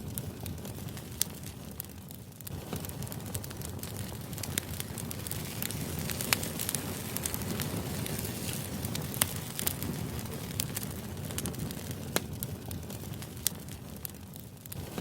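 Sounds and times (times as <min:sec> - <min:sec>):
fire crackling and popping: 0:00.0 - 0:15.0
low fire rumble: 0:00.0 - 0:15.0.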